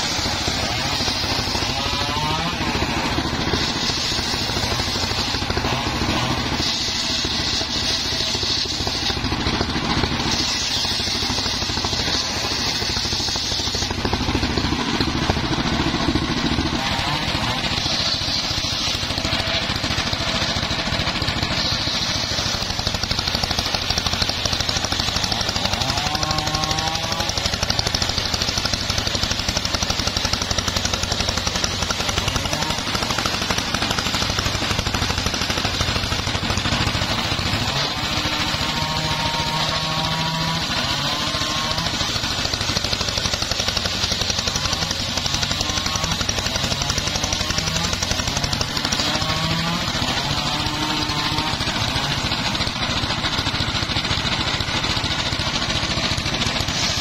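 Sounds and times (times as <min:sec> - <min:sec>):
circular saw cutting wood: 0:00.0 - 0:57.0.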